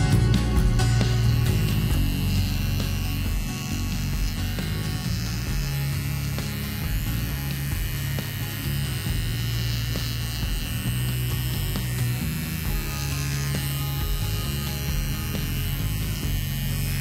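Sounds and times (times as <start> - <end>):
pet clipper buzzing: 0.0 - 17.0.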